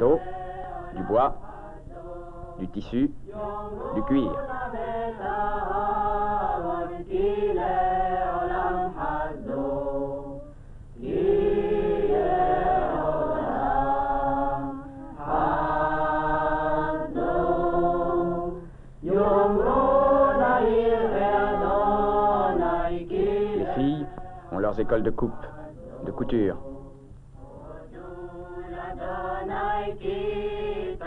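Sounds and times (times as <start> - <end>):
choir singing: 0.0 - 31.0.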